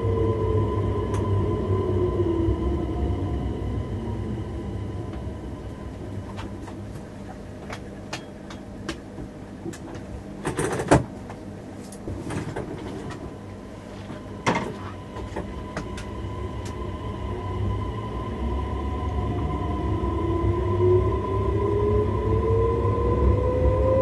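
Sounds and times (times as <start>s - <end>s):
train equipment humming: 0.0s - 24.0s
train rolling rumble: 0.0s - 24.0s.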